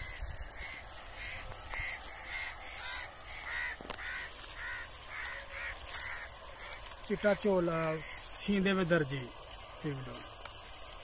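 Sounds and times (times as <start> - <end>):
bird calling harsh notes: 0.0 - 9.8
high-pitched insect buzz: 0.0 - 11.0.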